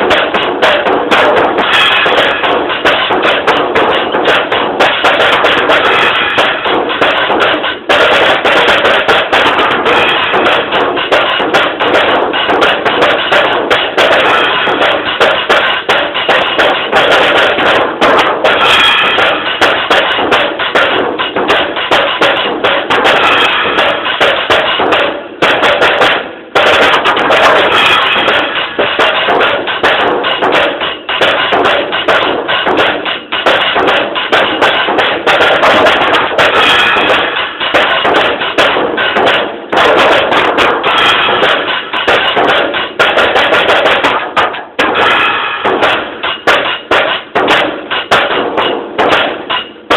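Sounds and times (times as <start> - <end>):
drum kit solo with cymbals: 0.0 - 49.9.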